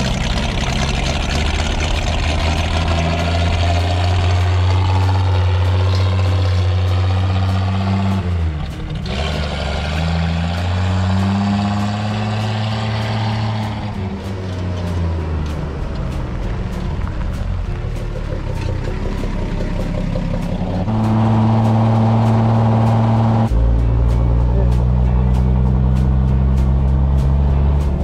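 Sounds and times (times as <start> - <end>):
truck engine pulling under load: 0.0 - 28.0.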